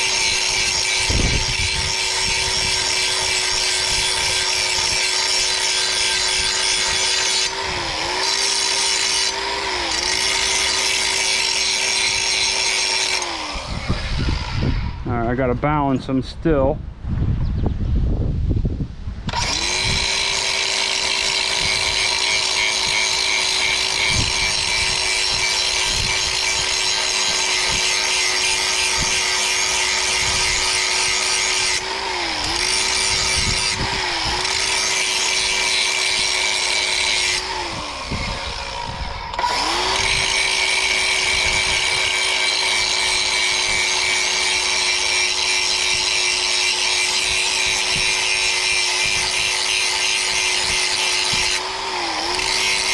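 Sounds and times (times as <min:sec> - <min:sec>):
angle grinder motor: 0:00.0 - 0:15.1, 0:19.3 - 0:52.9
grinding disc on steel: 0:00.0 - 0:15.1, 0:19.3 - 0:52.9.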